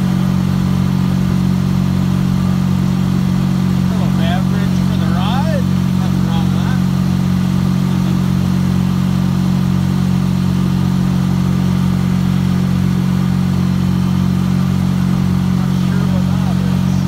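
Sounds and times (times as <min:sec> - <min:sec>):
outboard motor droning: 0:00.0 - 0:17.0.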